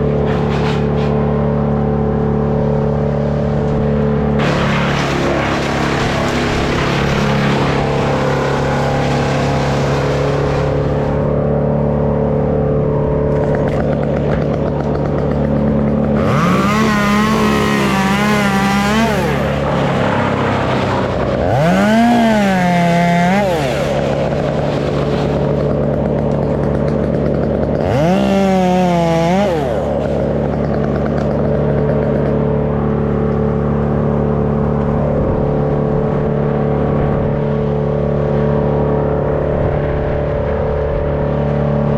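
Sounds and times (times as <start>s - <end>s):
chainsaw revving: 0.0s - 35.0s.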